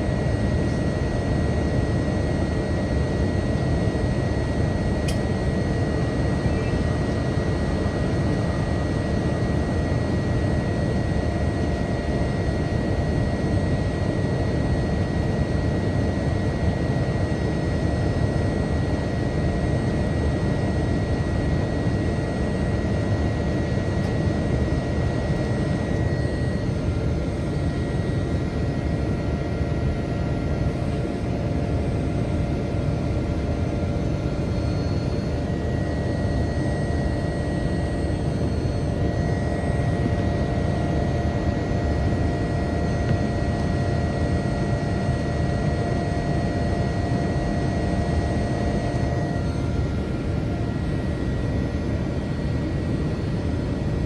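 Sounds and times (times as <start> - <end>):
thin high engine whine: 0.0 - 54.0.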